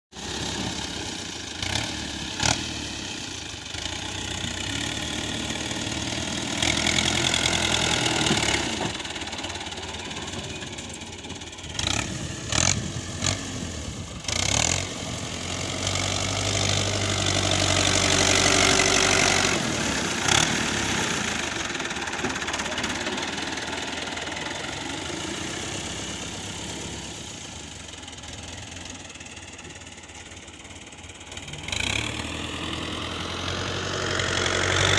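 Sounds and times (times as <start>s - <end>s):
tractor diesel engine working: 0.1s - 34.9s.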